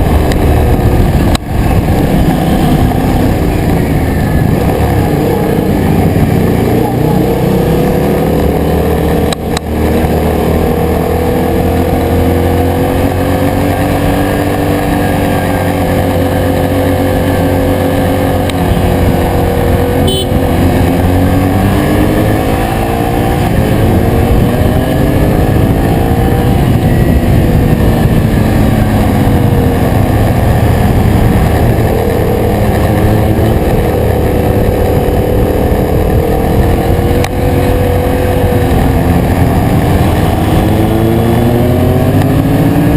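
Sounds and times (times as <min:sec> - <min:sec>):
motorcycle engine running: 0:00.0 - 0:42.9
steady rushing noise: 0:00.0 - 0:42.9.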